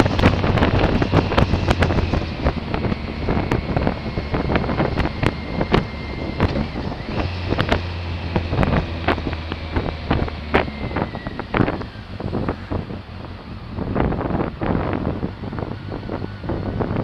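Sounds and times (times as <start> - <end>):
low engine hum: 0.0 - 17.0
wind buffeting microphone: 0.0 - 17.0.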